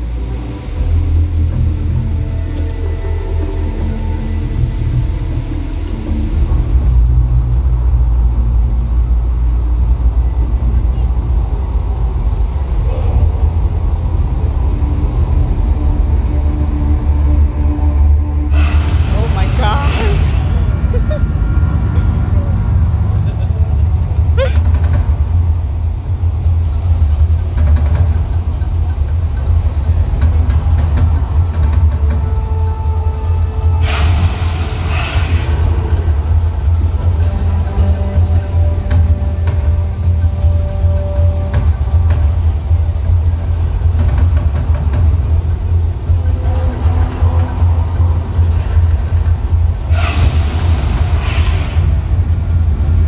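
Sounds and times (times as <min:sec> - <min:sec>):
deep rumble of eruption: 0:00.0 - 0:53.0
held droning tones: 0:00.0 - 0:53.0.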